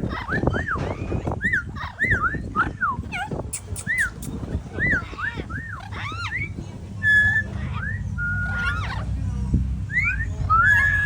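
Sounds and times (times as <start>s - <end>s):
birds calling in whistled notes: 0.0s - 11.0s
steady low rumble: 0.0s - 11.0s.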